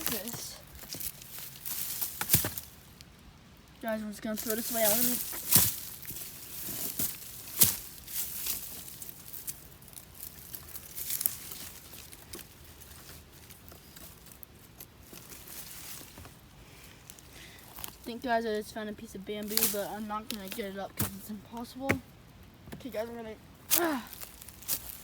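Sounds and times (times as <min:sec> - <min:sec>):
stems snapping: 0:00.0 - 0:16.2, 0:17.0 - 0:18.1, 0:19.4 - 0:22.0, 0:23.7 - 0:25.0
dry leaves rustling and crackling: 0:00.0 - 0:25.0.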